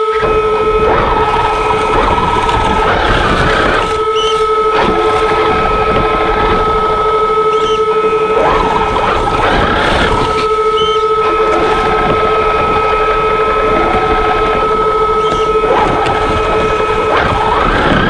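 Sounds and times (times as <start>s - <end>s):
steady high whine: 0.0s - 18.0s.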